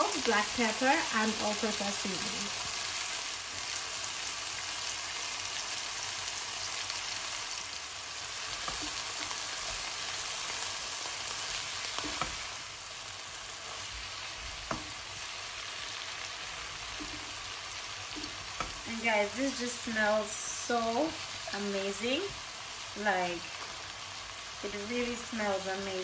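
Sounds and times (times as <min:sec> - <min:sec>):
vegetables sizzling in a wok: 0:00.0 - 0:26.0.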